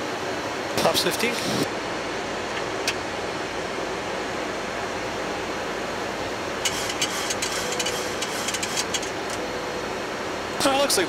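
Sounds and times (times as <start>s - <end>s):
airflow and air conditioning rush: 0.0s - 11.0s.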